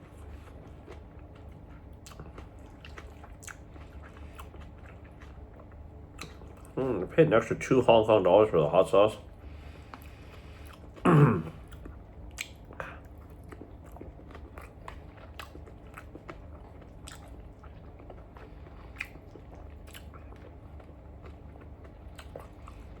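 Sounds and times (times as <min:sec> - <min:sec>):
person chewing noodles: 0:00.0 - 0:07.1, 0:09.2 - 0:23.0.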